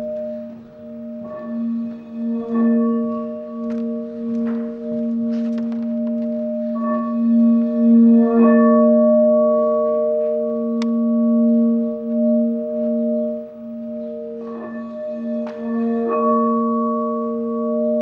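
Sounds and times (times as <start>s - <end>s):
singing bowl humming: 0.0s - 18.0s.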